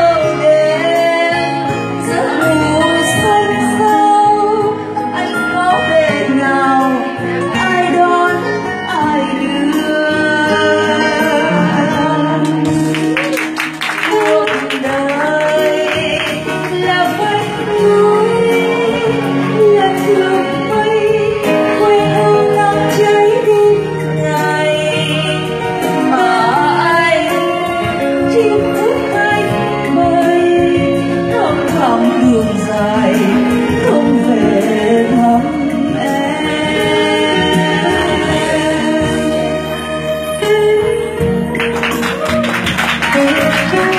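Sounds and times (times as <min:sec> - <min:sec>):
woman singing a slow ballad: 0:00.0 - 0:13.0, 0:13.9 - 0:41.8, 0:43.2 - 0:43.9.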